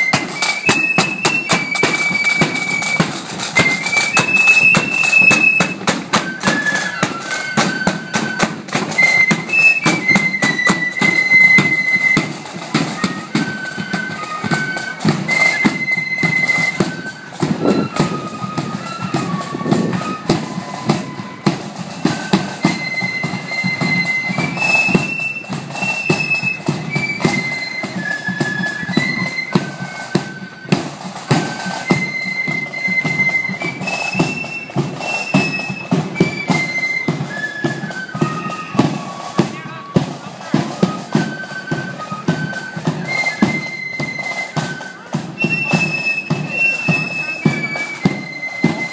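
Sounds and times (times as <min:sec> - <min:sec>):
flute band playing: 0:00.0 - 0:48.9
steady drum beat: 0:00.0 - 0:48.9.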